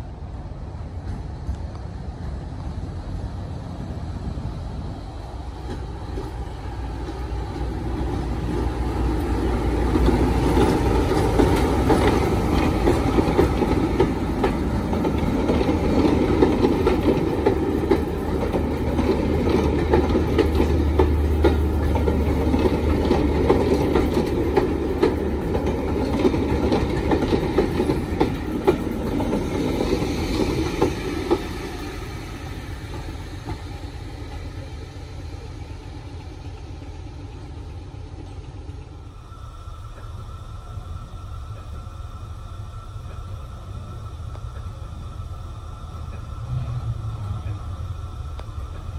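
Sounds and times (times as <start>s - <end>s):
diesel locomotive engine hum: 0.0s - 48.9s
train wheels clicking over rail joints: 5.1s - 39.0s, 43.0s - 48.9s.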